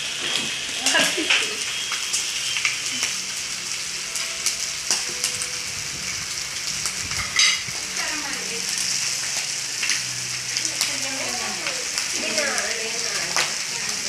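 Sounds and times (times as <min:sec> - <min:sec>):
meat sizzling on a griddle: 0:00.0 - 0:14.0.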